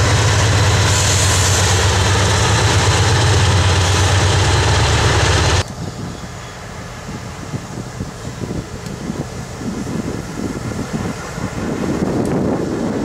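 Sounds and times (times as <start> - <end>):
diesel locomotive engine drone: 0.0 - 13.0
train rolling on rails: 0.0 - 13.0
wind: 0.0 - 13.0.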